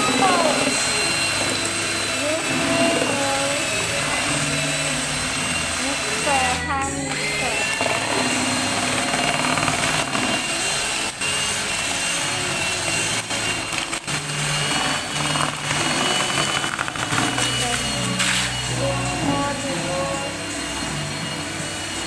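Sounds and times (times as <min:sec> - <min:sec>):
drill mixer motor whining: 0:00.0 - 0:22.0.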